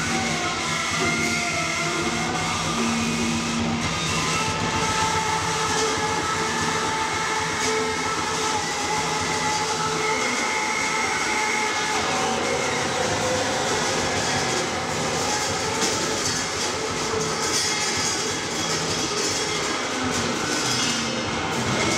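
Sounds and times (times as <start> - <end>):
amplified string instrument with effects: 0.0 - 21.9.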